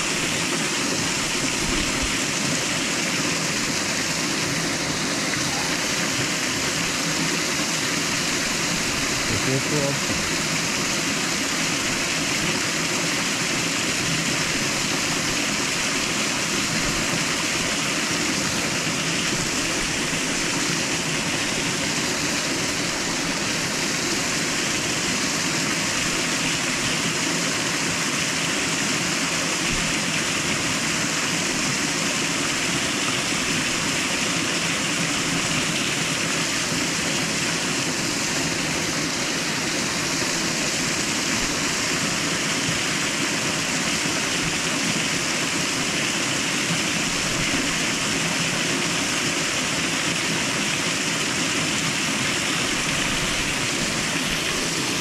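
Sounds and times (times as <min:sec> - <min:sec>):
waterfall pouring into pool: 0:00.0 - 0:55.0.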